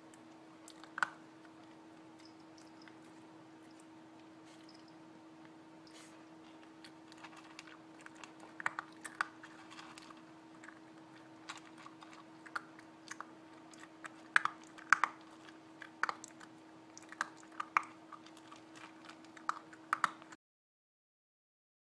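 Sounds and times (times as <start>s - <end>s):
faint steady hum: 0.0s - 20.4s
puppy crunching kibble: 0.0s - 20.4s.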